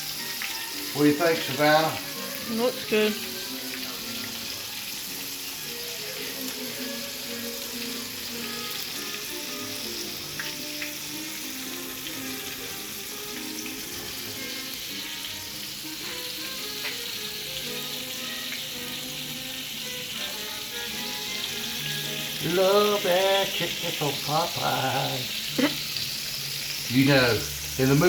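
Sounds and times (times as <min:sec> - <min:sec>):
chicken deep-frying in oil: 0:00.0 - 0:28.0
faint music: 0:00.0 - 0:28.0.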